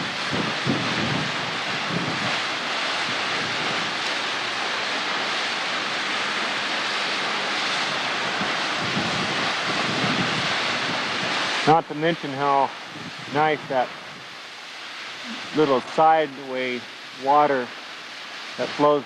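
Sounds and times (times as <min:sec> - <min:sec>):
waterfall rushing: 0:00.0 - 0:13.9, 0:15.1 - 0:17.6.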